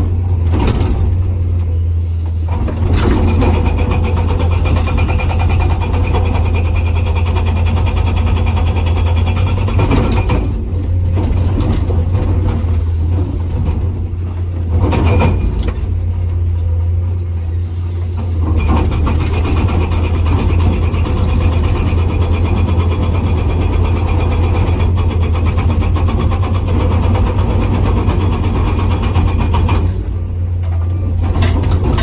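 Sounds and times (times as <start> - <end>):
hydraulic rock breaker hammering: 0.0 - 16.8, 18.2 - 32.0
diesel engine drone: 0.0 - 32.0.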